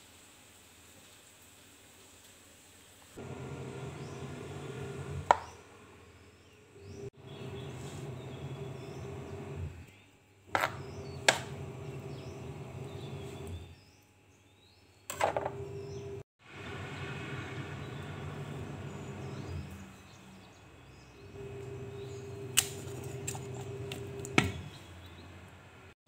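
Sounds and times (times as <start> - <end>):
steady mechanical hum: 3.2 - 14.1, 14.9 - 25.9.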